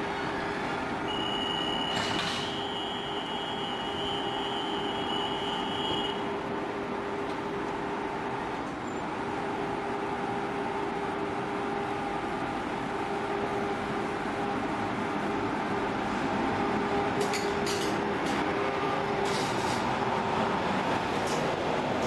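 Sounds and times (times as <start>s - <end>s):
train electrical hum: 0.0s - 22.0s.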